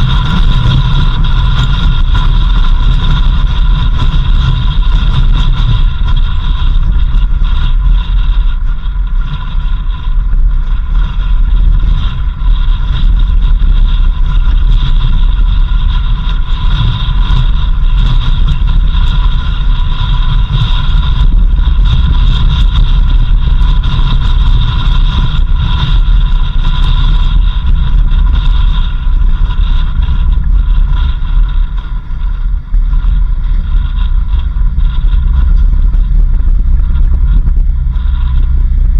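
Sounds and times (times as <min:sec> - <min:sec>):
vehicle driving on dirt road: 0:00.0 - 0:38.9.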